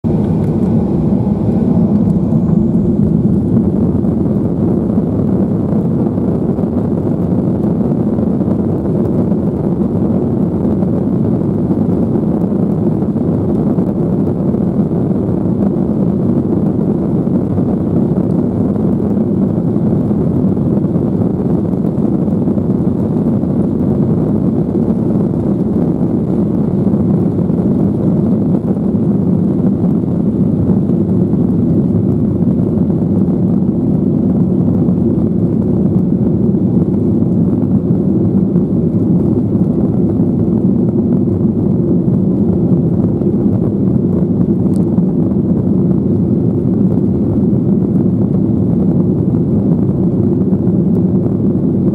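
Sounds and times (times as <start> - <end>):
jet engines rumbling in cabin: 0.0 - 51.9.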